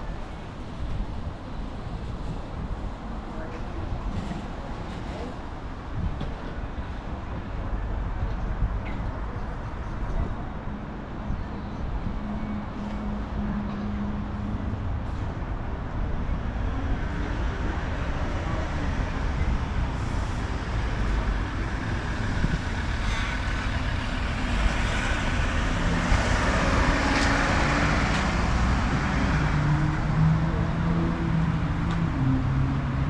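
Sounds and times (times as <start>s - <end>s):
road traffic: 0.0s - 33.0s
wind on microphone: 0.0s - 33.0s.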